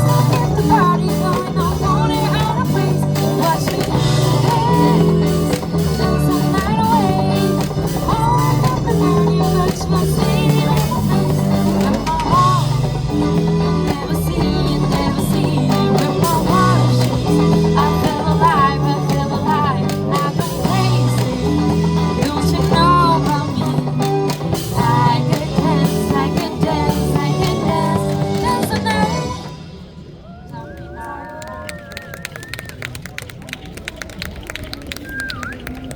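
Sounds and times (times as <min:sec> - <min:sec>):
steady bass: 0:00.0 - 0:29.5
person singing: 0:00.0 - 0:29.6
guitar: 0:00.0 - 0:30.0.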